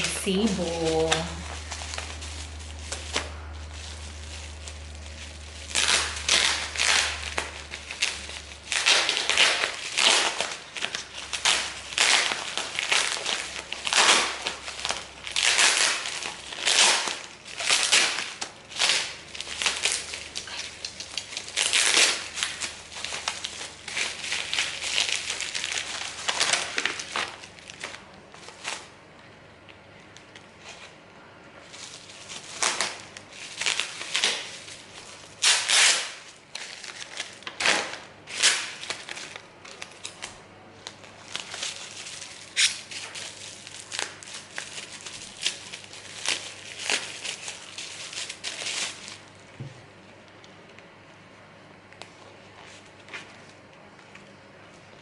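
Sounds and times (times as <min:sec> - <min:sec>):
packaging crinkling: 0:00.0 - 0:29.0, 0:31.6 - 0:49.5.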